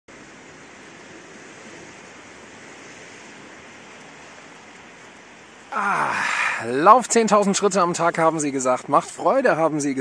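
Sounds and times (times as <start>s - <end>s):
rain: 0.1s - 10.0s
wind: 0.1s - 10.0s.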